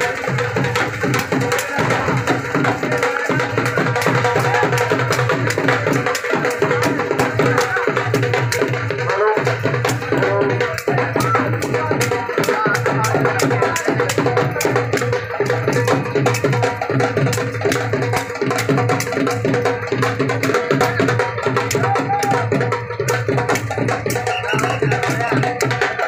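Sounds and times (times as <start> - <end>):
drums beating: 0.0 - 26.0.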